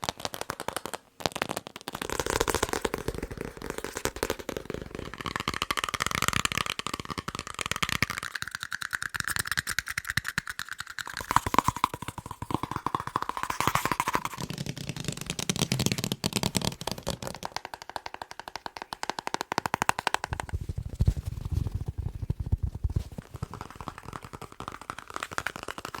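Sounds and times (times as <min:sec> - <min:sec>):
fingers tapping on objects: 0:00.0 - 0:21.6, 0:22.2 - 0:26.0.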